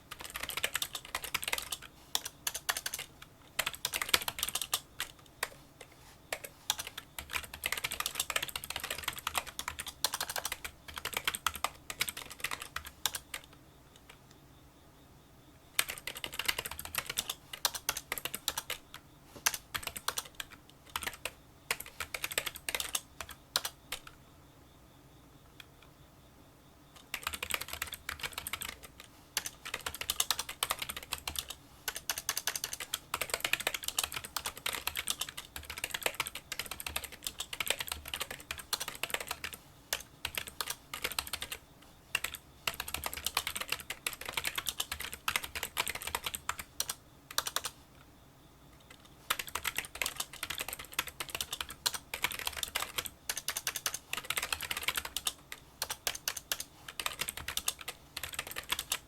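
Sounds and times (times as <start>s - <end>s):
keyboard typing clicks: 0.1s - 14.3s, 15.8s - 24.2s, 27.0s - 47.8s, 48.8s - 59.0s.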